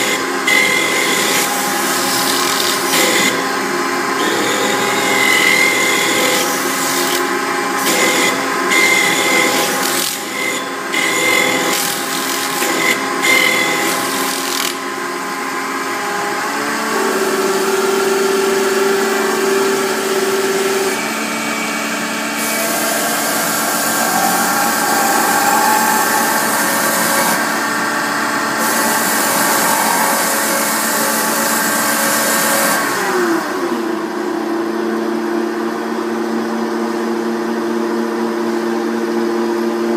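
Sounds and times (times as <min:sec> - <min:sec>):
lathe ringing whine: 0:00.0 - 0:33.1.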